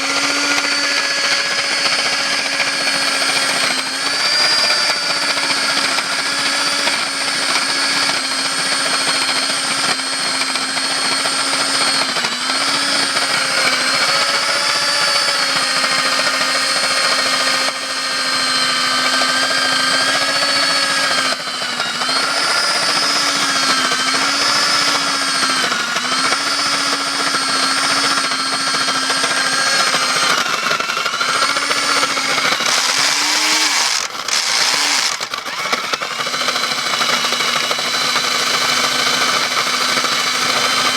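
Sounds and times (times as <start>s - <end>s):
core drill motor whine: 0.0s - 40.9s.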